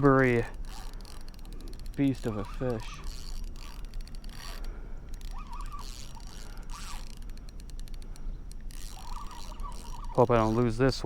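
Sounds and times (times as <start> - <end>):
fishing reel cranking: 0.0 - 11.0
faint chirps: 0.3 - 11.0.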